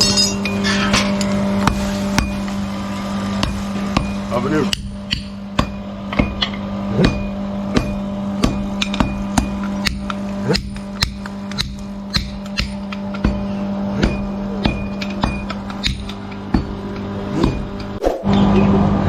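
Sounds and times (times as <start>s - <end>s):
hammer striking metal: 0.0s - 2.5s, 3.4s - 18.0s
steady low hum: 0.0s - 19.0s.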